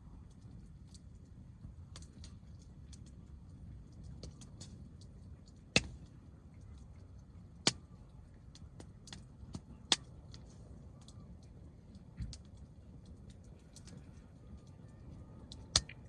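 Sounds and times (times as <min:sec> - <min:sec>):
campfire crackling: 0:00.0 - 0:16.0
low steady rumble: 0:00.0 - 0:16.0.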